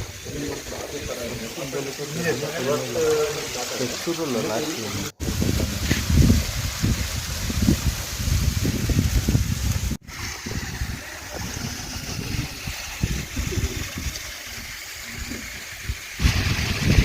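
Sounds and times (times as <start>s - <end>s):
waterfall splashing: 0.0s - 17.0s.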